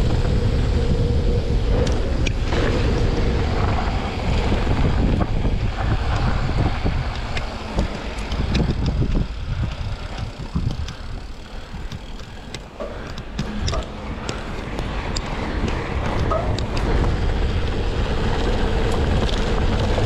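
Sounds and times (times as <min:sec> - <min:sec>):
bike clicks and rattles: 0:00.0 - 0:20.0
bike tyres rolling on gravel: 0:00.0 - 0:20.0
wind rushing over microphone: 0:00.0 - 0:20.0.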